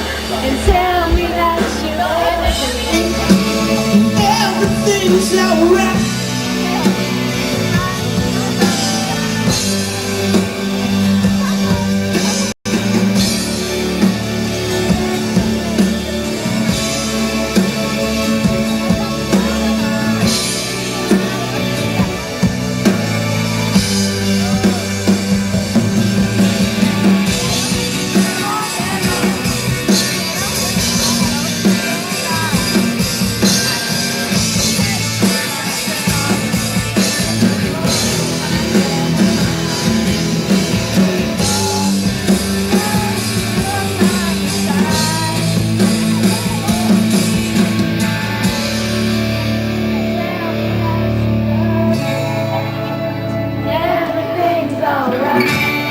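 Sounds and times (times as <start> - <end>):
voices singing along: 0.0 - 12.4, 14.5 - 55.9
live rock band playing: 0.0 - 55.9.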